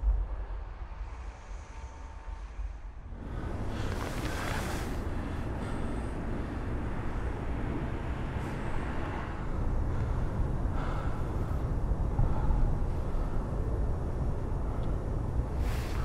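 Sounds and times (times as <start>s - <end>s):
low rumbling outdoor ambience: 0.0s - 16.0s.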